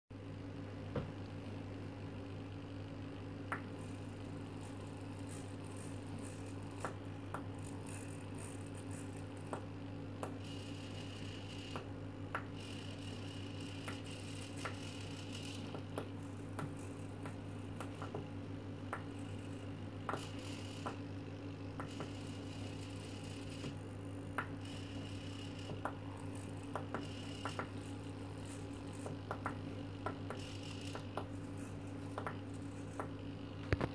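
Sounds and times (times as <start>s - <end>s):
steady low hum: 0.2s - 33.9s
servos whirring: 3.8s - 18.3s, 18.9s - 21.1s, 21.8s - 33.3s.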